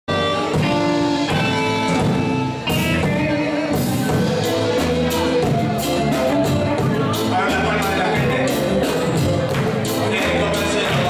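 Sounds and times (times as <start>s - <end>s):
bass guitar: 0.1s - 11.0s
drum kit: 0.1s - 11.0s
guitar: 0.1s - 11.0s
keyboard chords: 0.1s - 11.0s.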